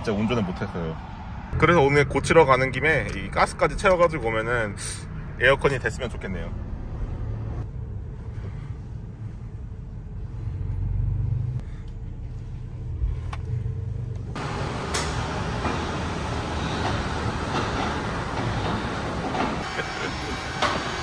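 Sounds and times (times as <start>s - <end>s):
engine and road rumble: 0.0s - 21.0s.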